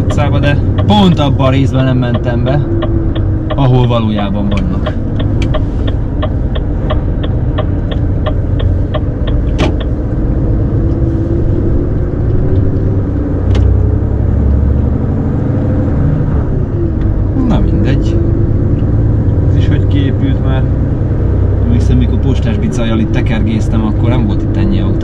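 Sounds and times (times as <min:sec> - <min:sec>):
turn signal ticking: 0:00.0 - 0:14.9, 0:16.8 - 0:25.0
lorry engine running: 0:00.0 - 0:25.0.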